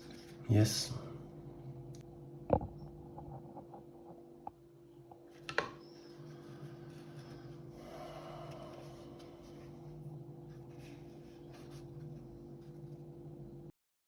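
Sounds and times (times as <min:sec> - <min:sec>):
steady low hum: 0:00.0 - 0:13.7.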